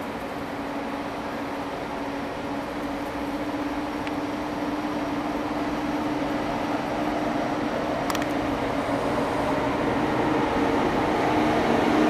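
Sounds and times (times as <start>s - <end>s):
electric locomotive hum: 0.0s - 12.0s
freight train rumbling past: 0.0s - 12.0s.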